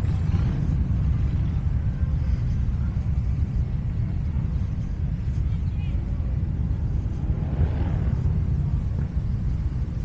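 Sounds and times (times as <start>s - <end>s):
motorcycle engines rumbling: 0.0s - 10.0s.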